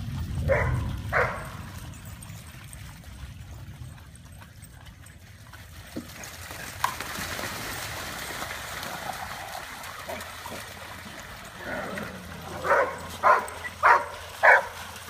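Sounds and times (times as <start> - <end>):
dogs splashing through water: 0.0 - 15.0.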